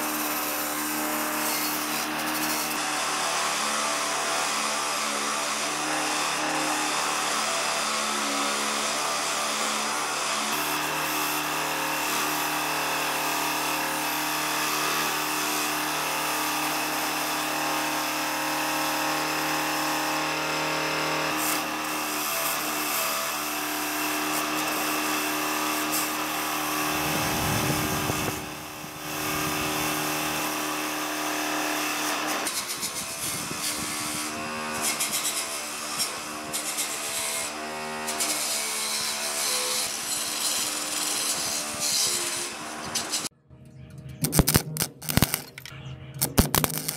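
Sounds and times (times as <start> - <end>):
wire brush scraping rust off steel: 0.0 - 2.9, 10.5 - 43.3, 44.2 - 46.9
bench grinder motor whine: 0.0 - 43.3.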